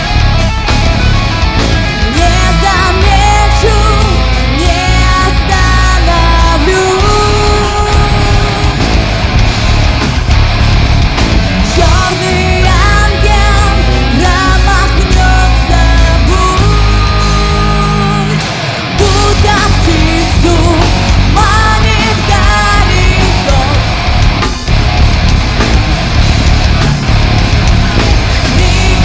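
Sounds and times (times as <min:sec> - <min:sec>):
live heavy rock band: 0:00.0 - 0:29.0.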